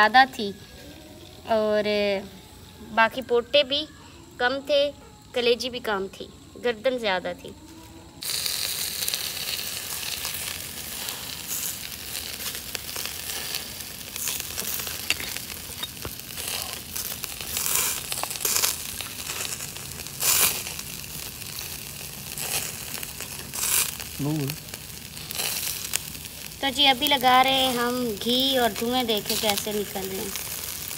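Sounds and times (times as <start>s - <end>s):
meat sizzling over charcoal: 0.0s - 30.9s.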